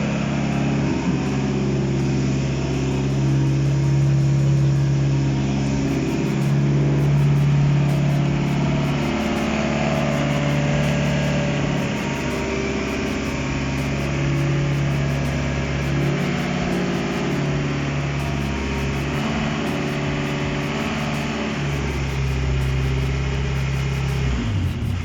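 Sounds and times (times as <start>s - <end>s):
petrol engine running: 0.0s - 25.0s.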